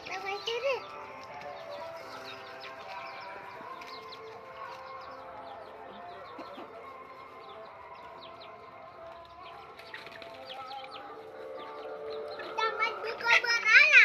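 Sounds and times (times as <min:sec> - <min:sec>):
chickens clucking: 0:00.0 - 0:13.7.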